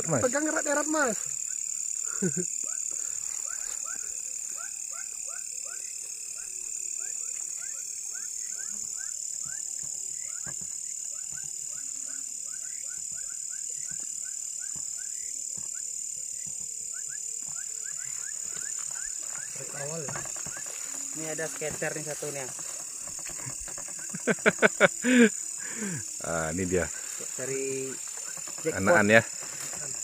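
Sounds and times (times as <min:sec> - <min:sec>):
frogs chirping: 0:00.0 - 0:30.0
high-pitched insect drone: 0:00.0 - 0:30.0.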